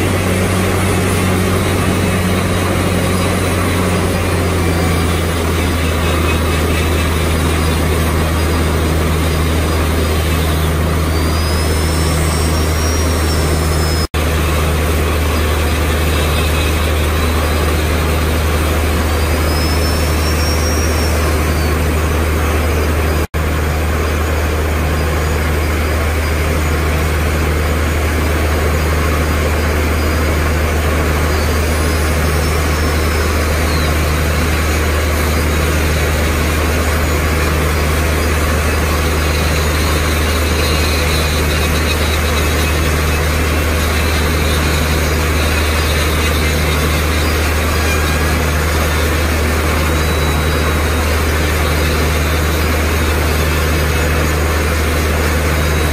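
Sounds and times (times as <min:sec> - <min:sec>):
die grinder grinding metal: 0:00.0 - 0:23.0, 0:25.1 - 0:55.9
low engine drone: 0:00.0 - 0:55.9.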